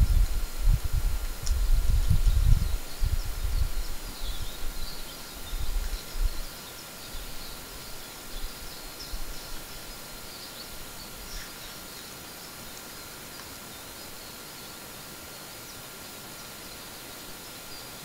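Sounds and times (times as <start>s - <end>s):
distant songbirds chirping: 0.0s - 18.0s
microphone hiss: 0.0s - 18.0s.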